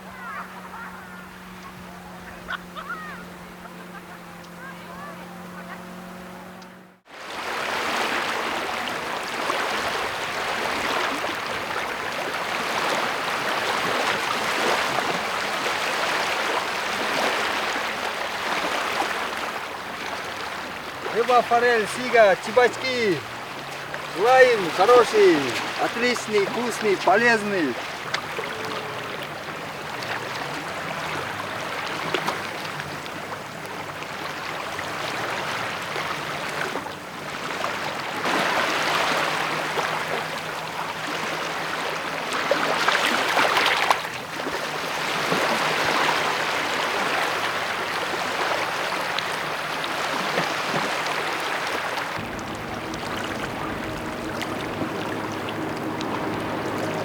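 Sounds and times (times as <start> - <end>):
rushing water: 7.0 - 57.0.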